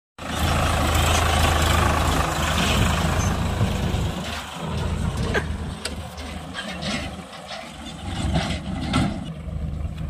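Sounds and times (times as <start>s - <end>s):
tractor diesel engine running: 0.2s - 10.0s.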